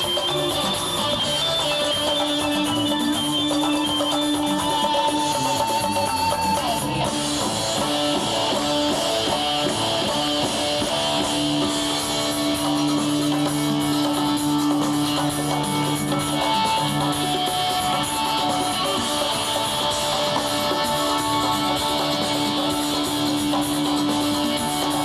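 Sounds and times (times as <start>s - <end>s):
electric guitar notes: 0.0s - 25.0s
live rock band playing: 0.0s - 25.0s.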